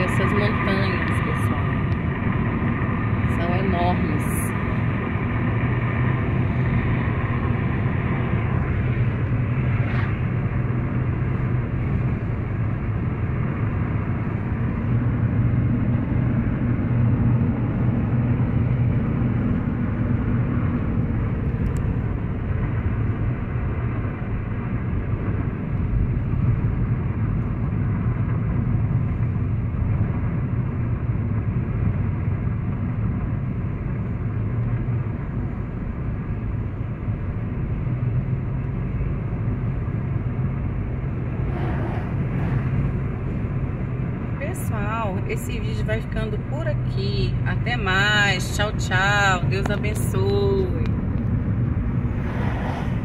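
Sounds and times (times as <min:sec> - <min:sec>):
car driving at highway speed: 0:00.0 - 0:53.0.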